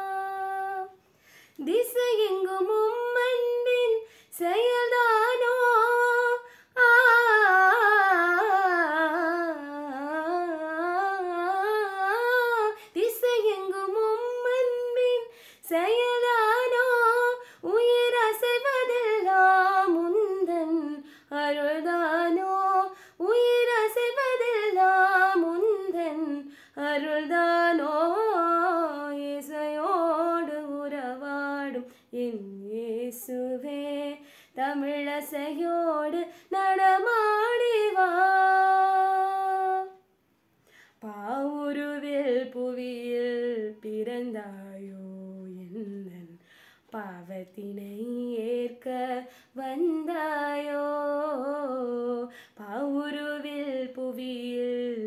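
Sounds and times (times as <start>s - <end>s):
woman singing unaccompanied: 0.0s - 40.0s, 41.0s - 55.0s.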